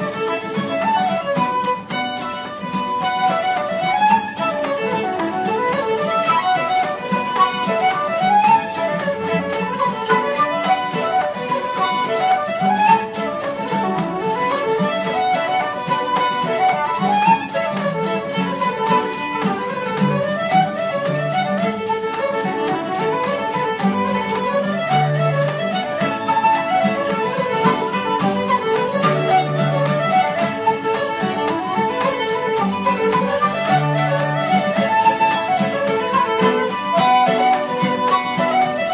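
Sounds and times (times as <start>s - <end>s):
fiddles playing fast tune: 0.0s - 38.9s
guitar chords: 0.0s - 38.9s.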